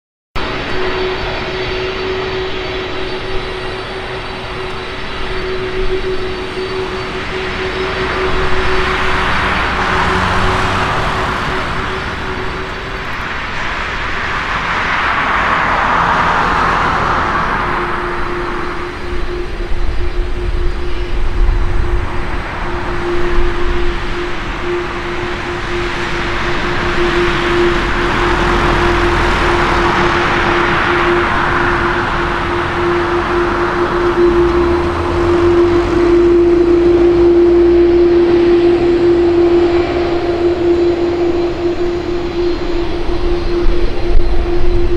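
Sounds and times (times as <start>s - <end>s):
jet engine whine: 0.4s - 44.9s
jet noise rush: 0.4s - 44.9s.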